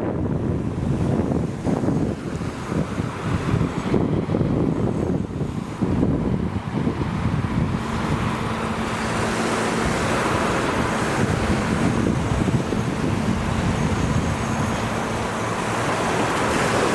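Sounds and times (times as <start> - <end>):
ocean surf on beach: 0.0 - 16.9
wind buffeting microphone: 0.0 - 16.9.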